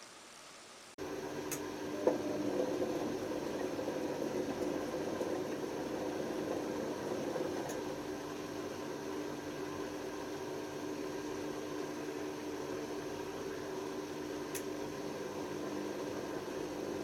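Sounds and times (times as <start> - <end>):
washing machine droning: 0.0 - 17.0.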